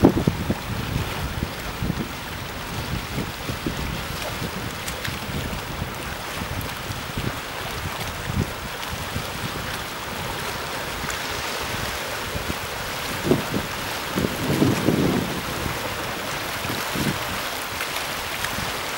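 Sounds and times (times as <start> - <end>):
waves washing over rocks: 0.0 - 18.9
wind buffeting microphone: 0.0 - 18.9.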